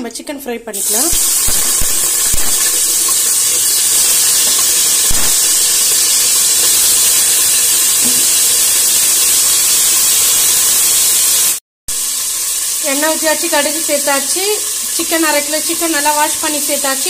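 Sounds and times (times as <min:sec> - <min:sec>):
chicken sizzling in hot oil: 0:00.8 - 0:17.0.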